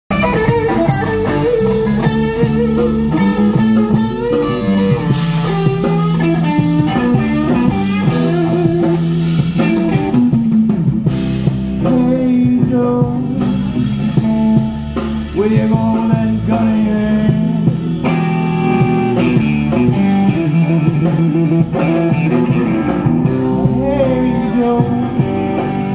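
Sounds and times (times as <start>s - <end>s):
blues-rock guitar music: 0.1s - 25.9s.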